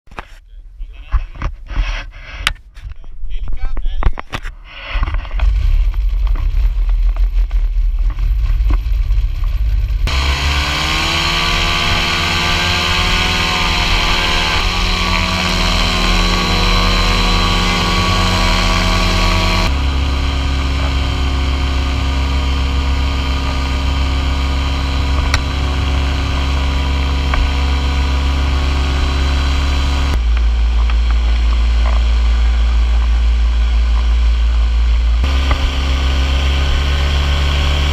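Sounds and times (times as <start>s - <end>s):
paramotor engine and propeller: 5.2s - 37.9s.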